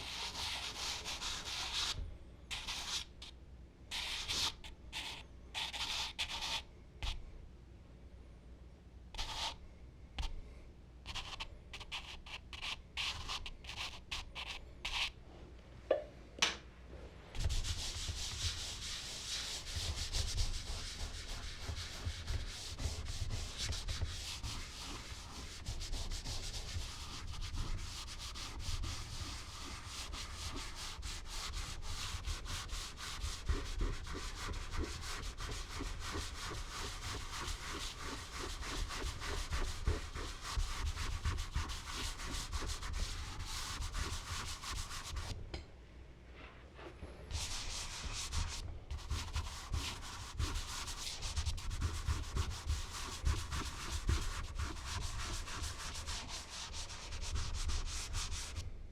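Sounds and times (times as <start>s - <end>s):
charcoal rubbing across paper: 0.0s - 3.1s, 11.1s - 15.1s, 17.4s - 45.3s, 46.4s - 58.6s
charcoal strokes on paper: 0.0s - 3.1s, 3.9s - 7.2s, 9.2s - 9.6s, 11.1s - 15.1s, 17.4s - 45.3s, 46.4s - 58.6s.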